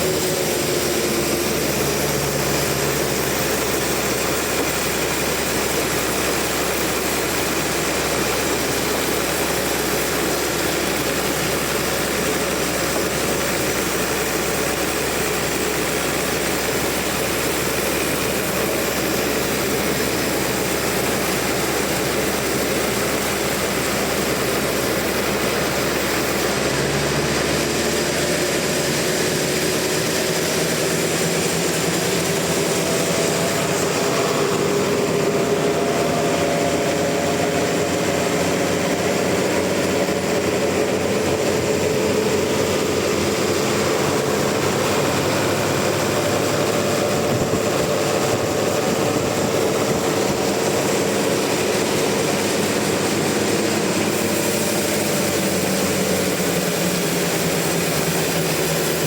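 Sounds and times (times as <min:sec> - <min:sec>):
high whine: 0:00.0 - 0:59.0
sawmill saw cutting log: 0:00.0 - 0:59.0.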